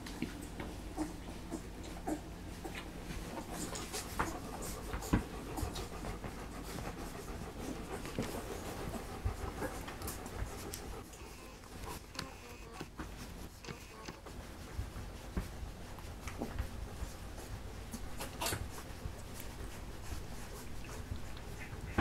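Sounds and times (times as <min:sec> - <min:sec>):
dog panting: 0:00.0 - 0:22.0
puppies suckling: 0:00.0 - 0:22.0.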